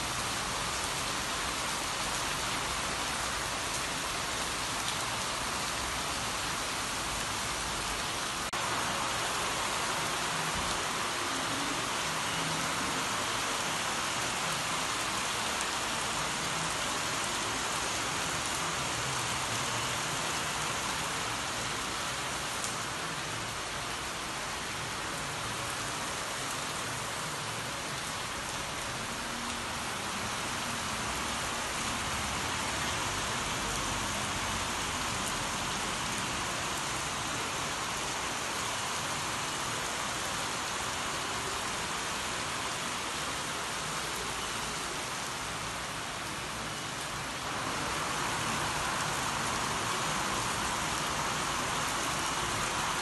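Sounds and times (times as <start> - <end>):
heavy rain on metal roofs: 0.0 - 53.0.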